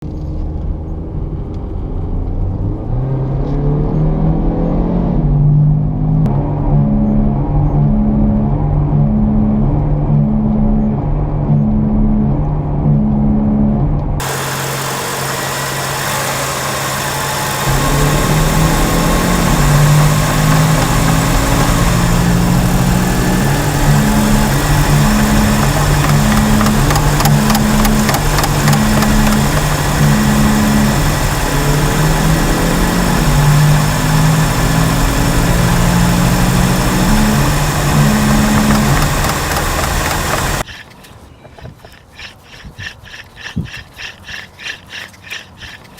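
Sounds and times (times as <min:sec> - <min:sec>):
road and tyre noise: 0:00.0 - 0:45.9
wheel bearing droning hum: 0:05.1 - 0:45.9.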